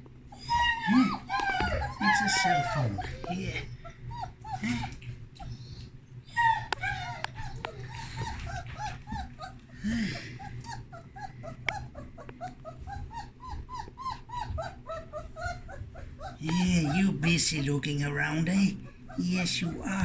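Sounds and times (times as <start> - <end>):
puppy whimpering: 0.3 - 20.0.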